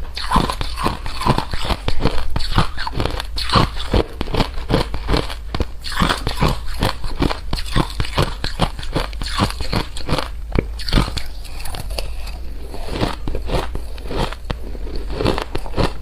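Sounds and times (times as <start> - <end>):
crunchy food being chewed: 0.0 - 16.0.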